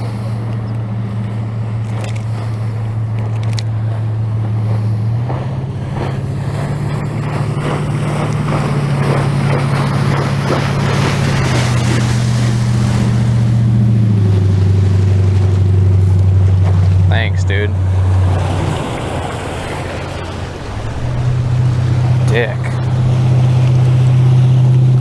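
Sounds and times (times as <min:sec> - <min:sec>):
boat motor running: 0:00.0 - 0:25.0
wind and water hiss: 0:00.0 - 0:25.0.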